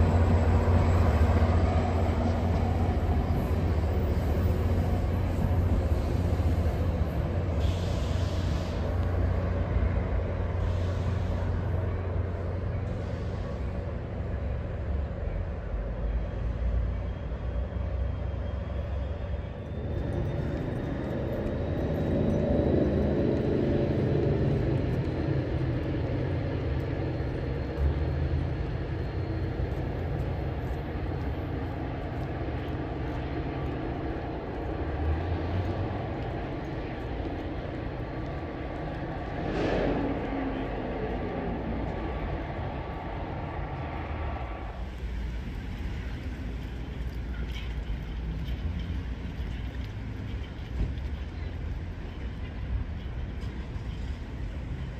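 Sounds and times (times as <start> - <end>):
diesel train engine rumble: 0.0 - 54.9.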